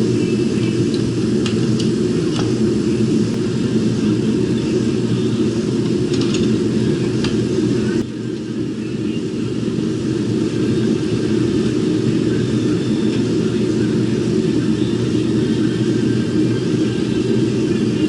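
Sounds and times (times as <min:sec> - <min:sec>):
low machine drone: 0:00.0 - 0:18.0.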